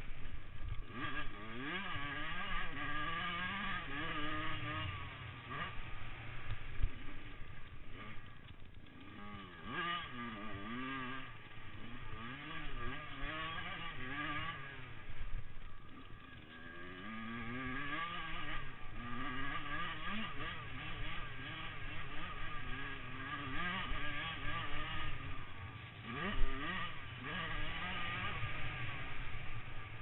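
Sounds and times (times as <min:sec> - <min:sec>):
motocross engines revving: 0:00.0 - 0:30.0.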